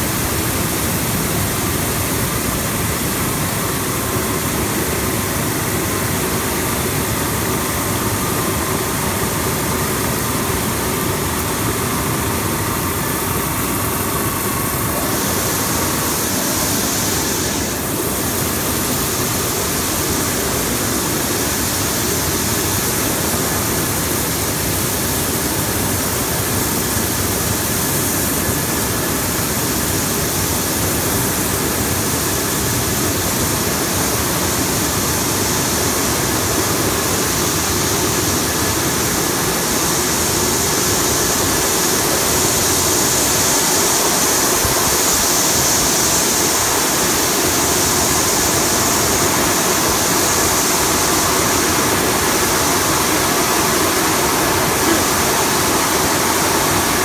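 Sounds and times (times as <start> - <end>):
machine noise: 0.0 - 57.0.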